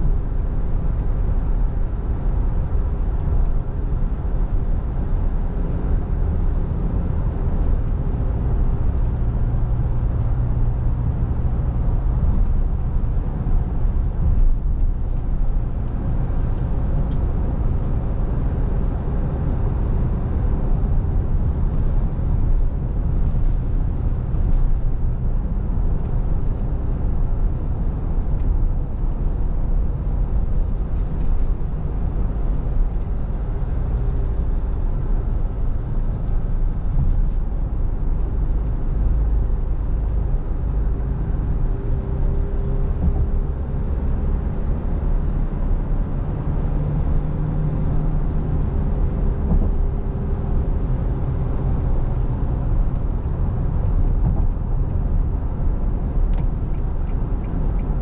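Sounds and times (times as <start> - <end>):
tyre and road rumble: 0.0 - 58.0.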